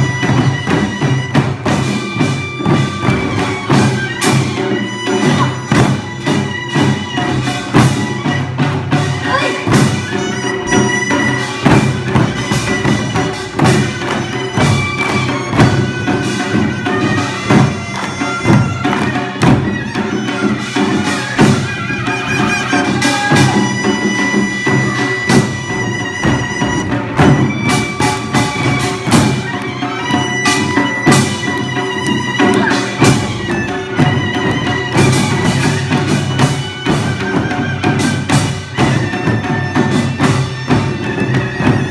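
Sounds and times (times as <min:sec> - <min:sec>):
steady drum strokes: 0:00.0 - 0:41.9
sustained instrumental melody: 0:00.0 - 0:41.9.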